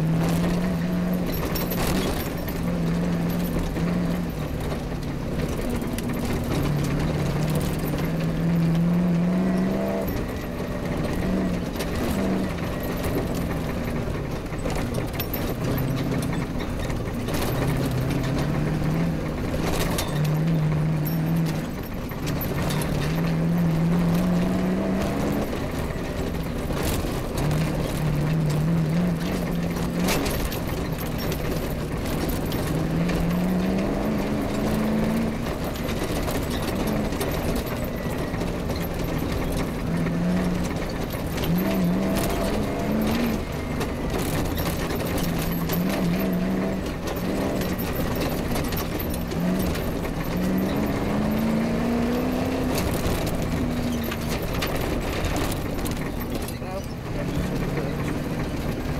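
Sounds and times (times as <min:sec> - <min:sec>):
continuous rushing noise: 0:00.0 - 0:58.9
rally car engine revving: 0:00.0 - 0:58.9.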